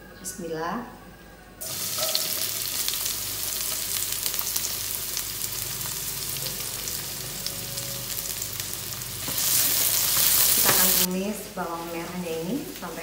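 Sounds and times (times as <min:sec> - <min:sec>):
shallots sizzling in hot oil: 0:01.6 - 0:13.0.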